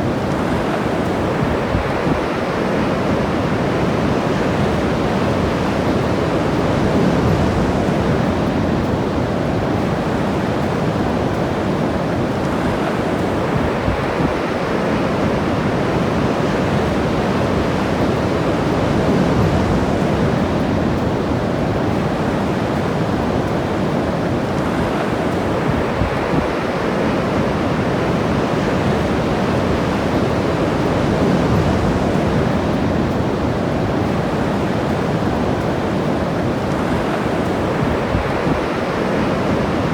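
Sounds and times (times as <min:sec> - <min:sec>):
ocean surf washing onto beach: 0:00.0 - 0:39.9
wind buffeting microphone: 0:00.0 - 0:39.9.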